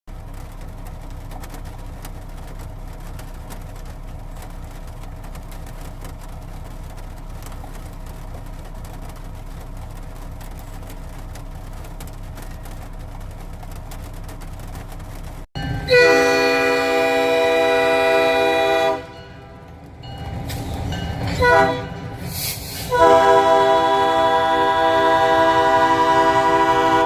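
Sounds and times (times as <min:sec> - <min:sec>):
engine idling: 0:00.1 - 0:27.0.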